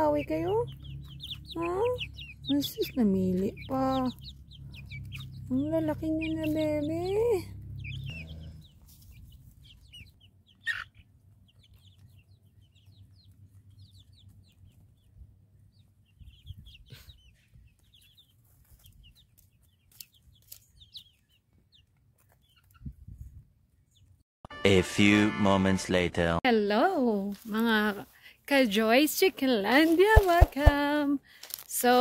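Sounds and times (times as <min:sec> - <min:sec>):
chicks peeping and chirping: 0:00.0 - 0:24.2, 0:27.5 - 0:32.0.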